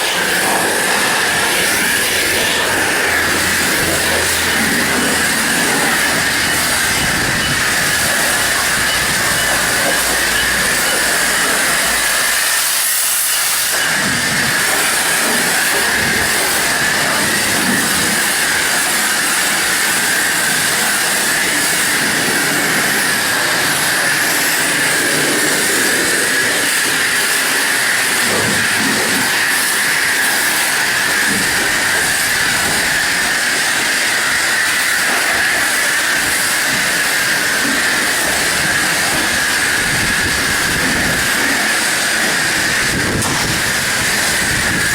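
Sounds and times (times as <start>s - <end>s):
pressure washer spraying water: 0.0s - 44.9s.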